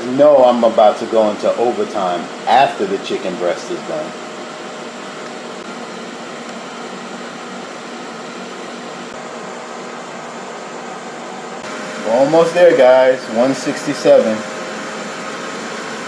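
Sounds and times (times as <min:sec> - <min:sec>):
grill fan whirring: 0:00.0 - 0:16.0.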